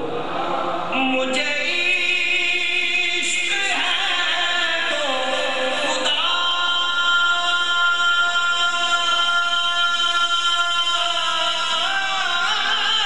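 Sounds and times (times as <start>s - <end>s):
man singing unaccompanied: 0.9s - 13.0s.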